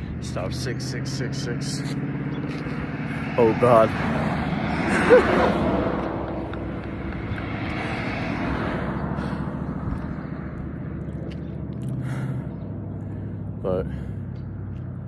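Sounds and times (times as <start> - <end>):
passing cars rumbling: 0.0 - 15.0.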